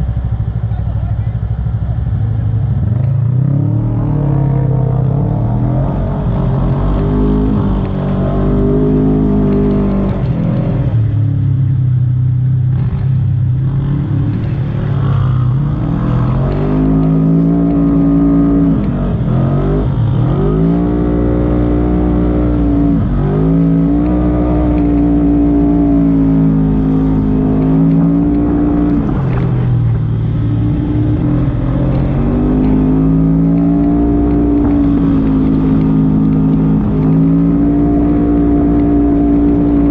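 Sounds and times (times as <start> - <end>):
utility vehicle engine revving: 0.0 - 39.9.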